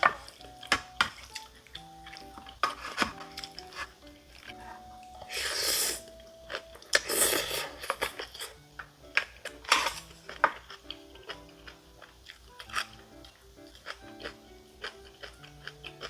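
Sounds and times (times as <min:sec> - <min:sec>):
crunchy chewing: 0:00.0 - 0:16.0
light background music: 0:00.0 - 0:16.0.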